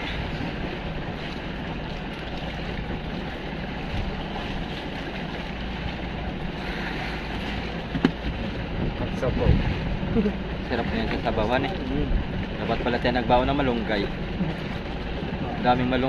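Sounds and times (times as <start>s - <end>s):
boat engine drone: 0.0s - 16.0s
water washing around hull: 0.0s - 16.0s
wind on microphone: 0.0s - 16.0s.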